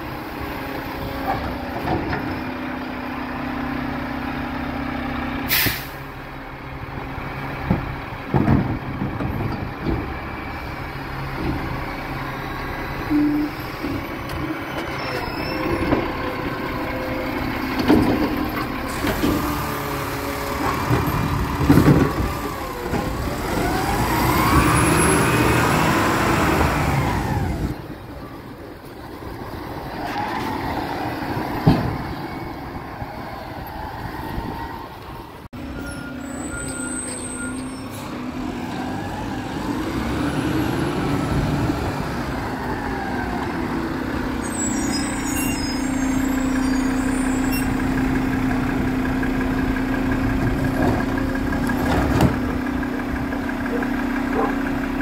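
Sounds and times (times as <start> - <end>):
garbage truck engine revving: 0.5 - 27.8, 35.6 - 55.0.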